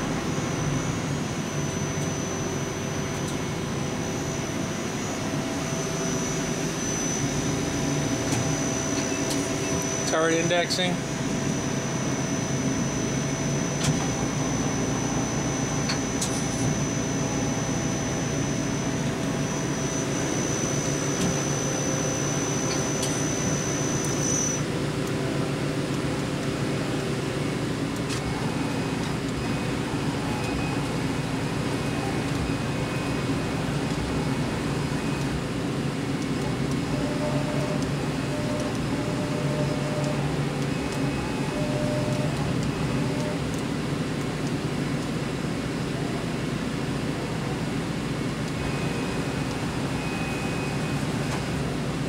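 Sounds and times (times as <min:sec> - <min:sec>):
lathe machine hum: 0:00.0 - 0:52.0
thin high whine: 0:00.0 - 0:52.0.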